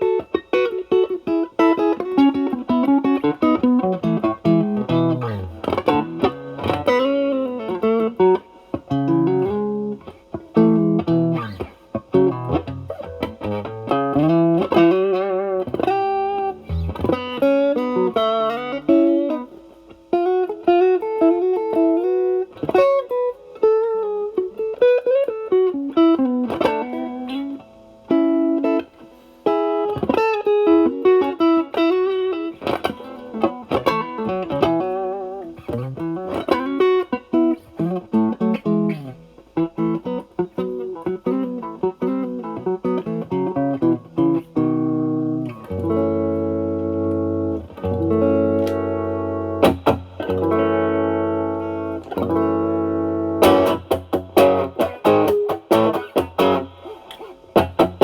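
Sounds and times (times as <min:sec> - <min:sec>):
overdriven electric guitar lead: 0:00.0 - 0:58.0.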